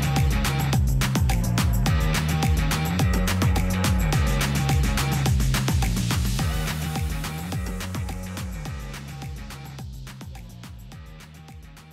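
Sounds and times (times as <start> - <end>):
held bass line: 0.0 - 11.9
steady drum beat: 0.0 - 11.9.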